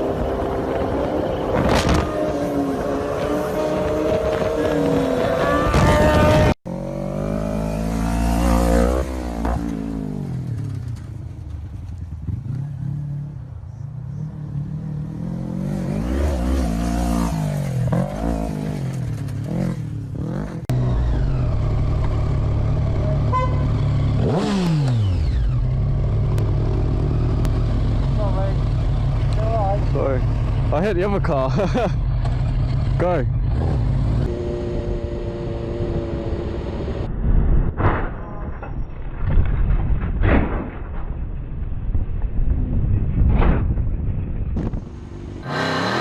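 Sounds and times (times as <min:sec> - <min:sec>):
motorcycle engine revving: 0:00.0 - 0:11.1, 0:12.2 - 0:37.1, 0:44.6 - 0:46.0.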